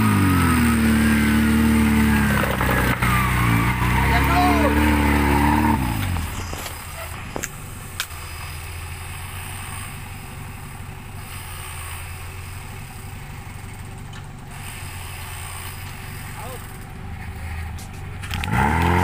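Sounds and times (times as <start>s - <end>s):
engine revving and running: 0.0s - 19.0s.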